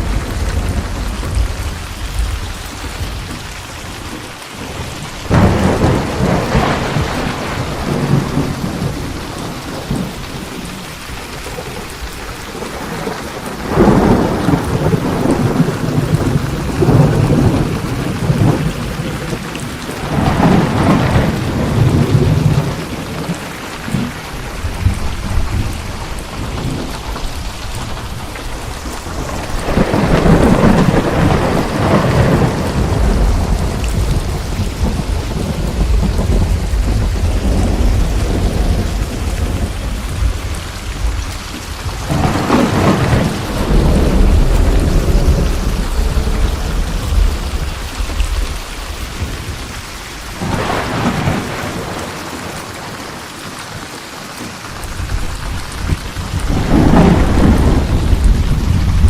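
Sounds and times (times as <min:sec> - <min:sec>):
thunder rumbling: 0:00.0 - 0:53.3, 0:54.7 - 0:59.0
heavy rain: 0:00.0 - 0:59.0.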